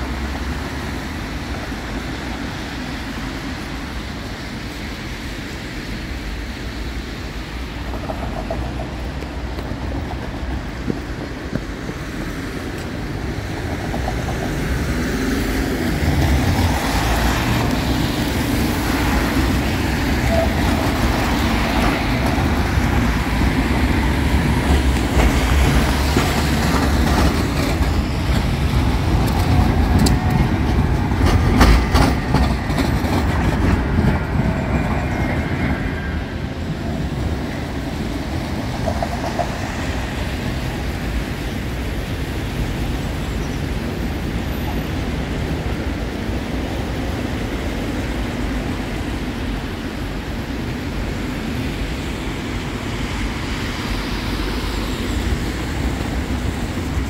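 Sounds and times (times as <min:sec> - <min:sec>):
tram wheels clattering over rail joints: 0:00.0 - 0:57.0
trams rumbling over tracks: 0:00.0 - 0:57.0.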